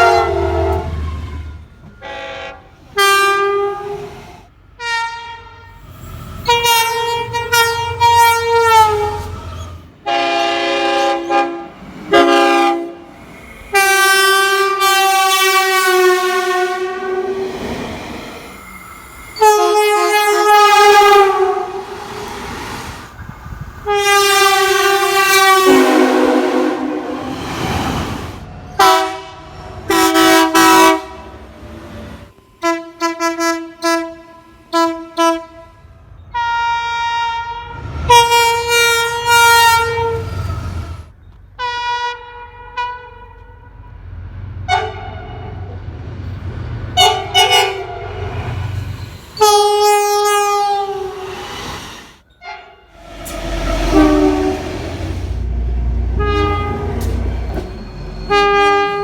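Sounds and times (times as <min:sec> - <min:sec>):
train air horn blasts: 0:00.0 - 0:05.8, 0:06.4 - 0:17.7, 0:19.4 - 0:22.3, 0:23.8 - 0:27.7, 0:28.8 - 0:31.6, 0:32.6 - 0:40.5, 0:41.6 - 0:43.7, 0:44.7 - 0:45.6, 0:47.0 - 0:59.0.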